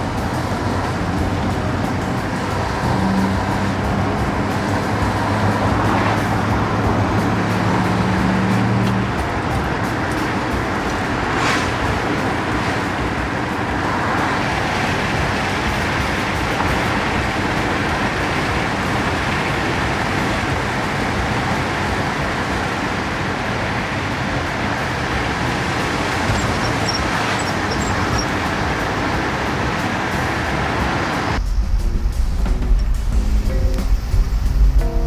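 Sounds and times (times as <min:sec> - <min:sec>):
car engine running: 0:00.0 - 0:35.0
road and tyre noise: 0:00.0 - 0:35.0.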